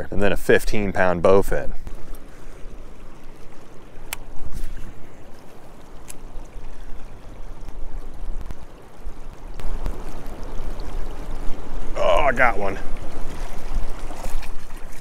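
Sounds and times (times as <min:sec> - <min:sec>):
river water rushing over rocks: 0:01.8 - 0:15.0.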